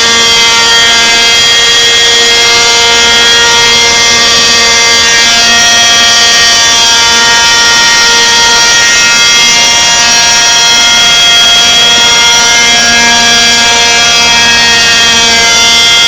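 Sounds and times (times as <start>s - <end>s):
model helicopter engine: 0.0s - 16.0s.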